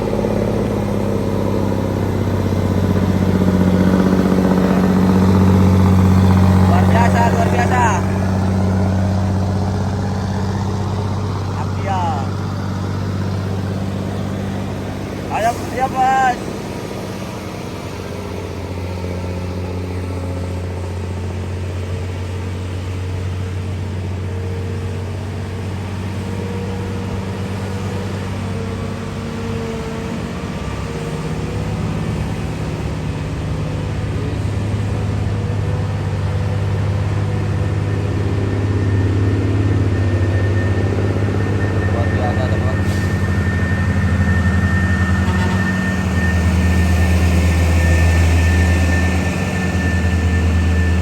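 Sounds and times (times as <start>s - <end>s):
truck engine running: 0.0s - 51.0s.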